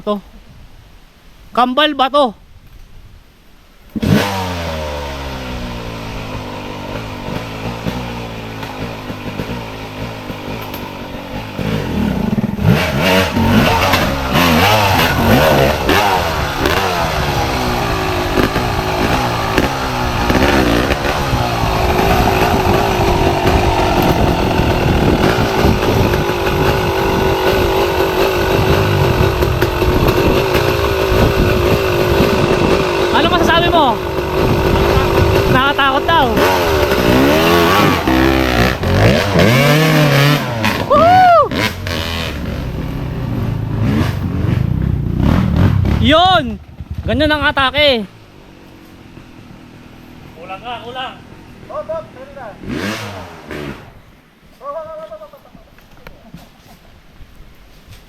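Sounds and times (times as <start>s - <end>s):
dirt bike engine revving: 3.9s - 54.3s.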